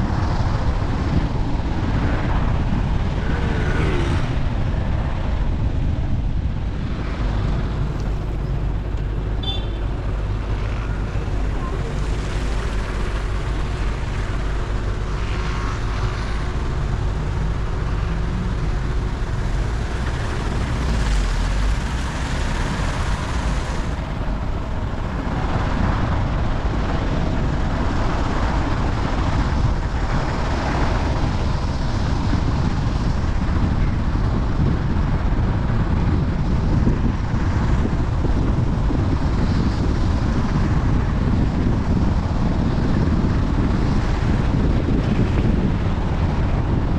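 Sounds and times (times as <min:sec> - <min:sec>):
heavy low rumble: 0:00.0 - 0:46.9
moving vehicle rushing noise: 0:00.0 - 0:46.9
wind: 0:00.0 - 0:46.9.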